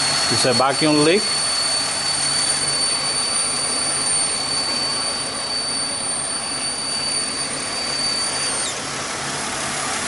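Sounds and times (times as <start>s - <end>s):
thin high-pitched whistle: 0.2s - 9.0s.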